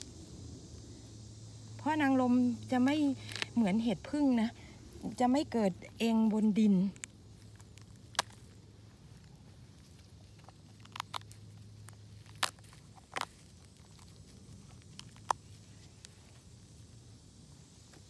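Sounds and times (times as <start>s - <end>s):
low steady hum: 0.0s - 18.0s
mushrooms snapping and rustling: 2.6s - 18.0s.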